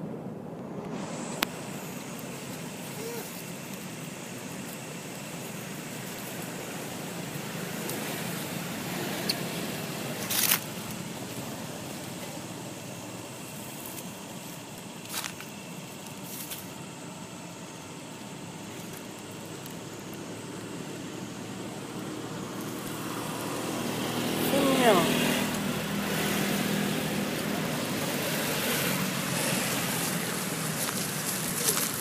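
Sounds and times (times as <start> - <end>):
outdoor background noise: 0.0 - 32.0
crackling rustles: 0.8 - 23.9, 25.3 - 32.0.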